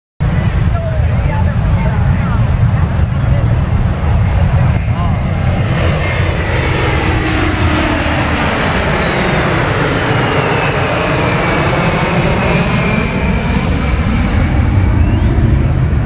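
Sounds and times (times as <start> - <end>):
jet aircraft flying over: 0.2 - 16.0.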